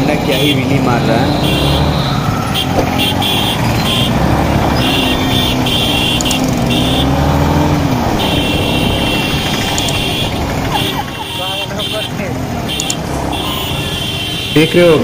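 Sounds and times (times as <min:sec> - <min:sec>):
traffic noise: 0:00.0 - 0:15.0
motorcycle engine running: 0:00.7 - 0:14.5.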